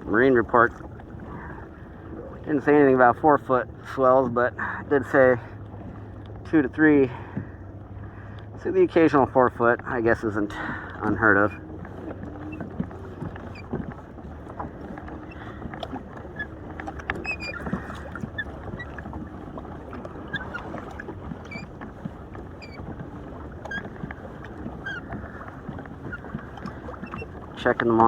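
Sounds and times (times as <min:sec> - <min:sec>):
water lapping against kayak hull: 0:00.0 - 0:28.0.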